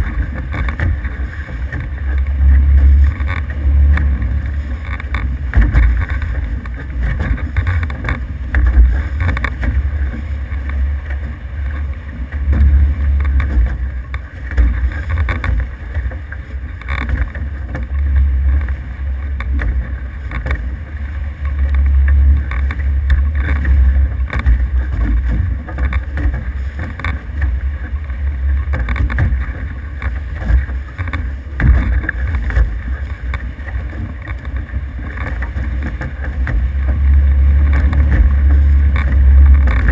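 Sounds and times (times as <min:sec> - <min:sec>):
water rushing past hulls: 0:00.0 - 0:39.9.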